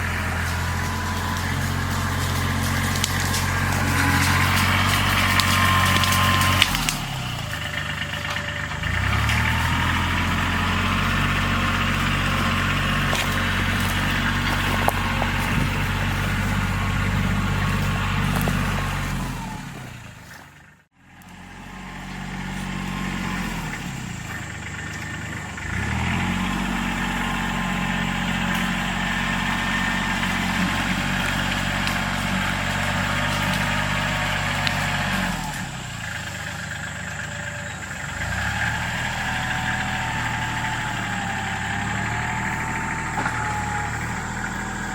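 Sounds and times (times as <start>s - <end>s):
brush cutter engine revving: 0.0s - 44.9s.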